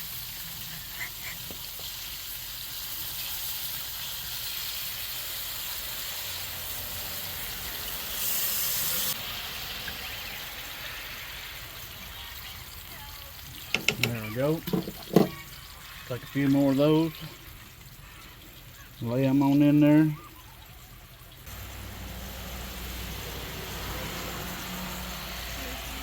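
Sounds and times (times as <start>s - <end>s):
meat sizzling in grease: 0.0s - 18.9s, 21.4s - 26.0s.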